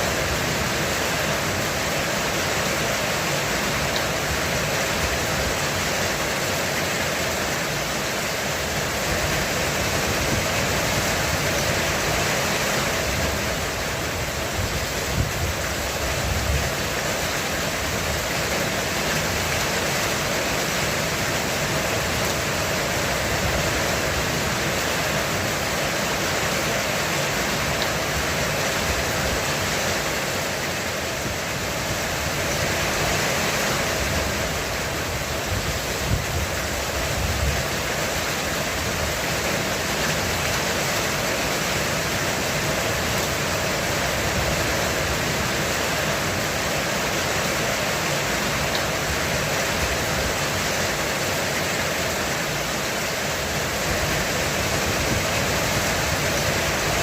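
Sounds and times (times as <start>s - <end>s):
heavy rain drumming on a roof: 0.0s - 57.0s.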